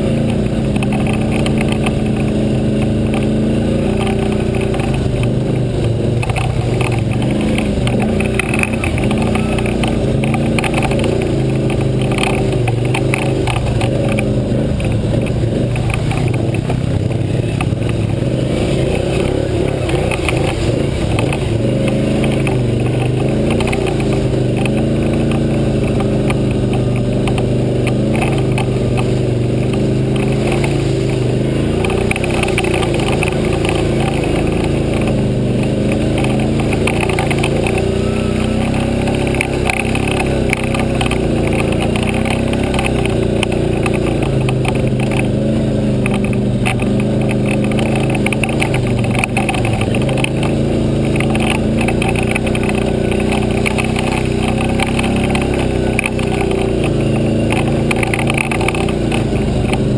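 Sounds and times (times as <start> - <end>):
atv engine running: 0.0 - 59.9
clatters and knocks over rough trail: 0.0 - 59.9.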